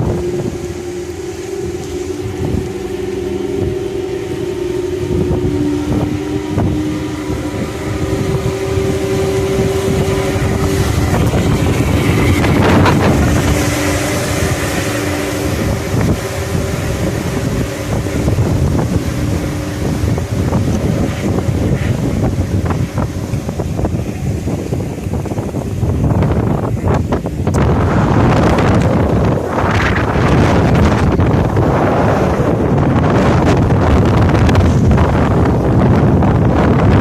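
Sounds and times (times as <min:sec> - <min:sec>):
ferry engines droning: 0:00.0 - 0:37.0
wind buffeting microphone: 0:00.0 - 0:37.0.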